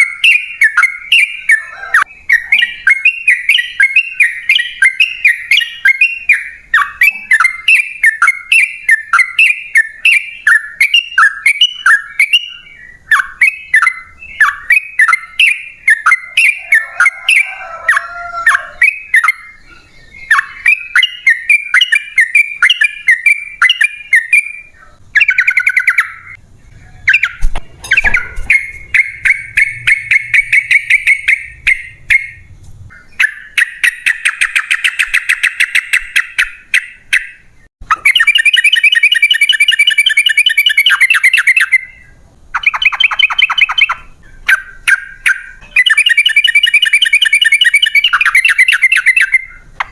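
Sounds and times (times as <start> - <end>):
bird singing rapid chirps and trills: 0.0 - 49.9.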